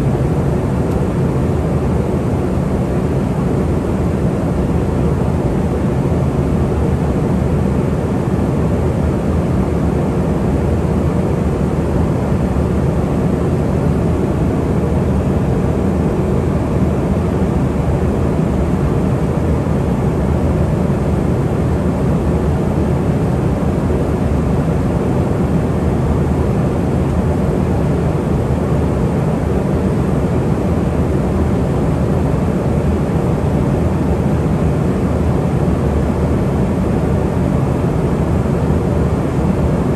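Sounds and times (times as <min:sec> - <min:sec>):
airflow rush in jet cabin: 0:00.0 - 0:39.9
jet engine hum: 0:00.0 - 0:39.9.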